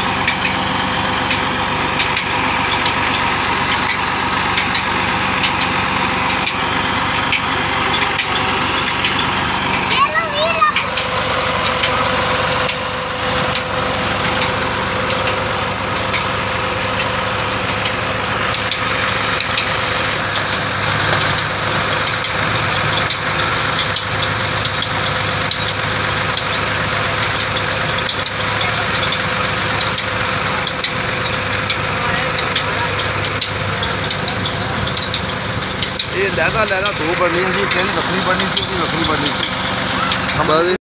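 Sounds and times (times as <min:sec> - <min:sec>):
diesel tractor engine running: 0:00.0 - 0:40.8.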